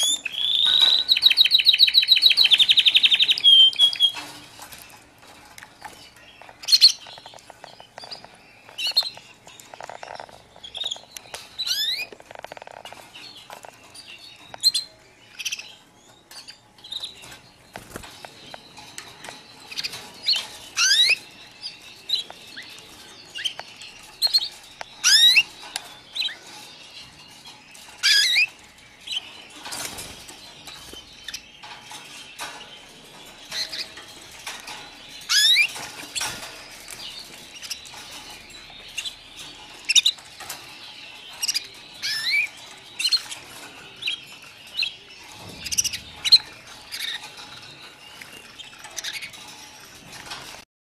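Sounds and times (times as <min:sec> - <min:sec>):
canaries chirping: 0:00.0 - 0:50.7.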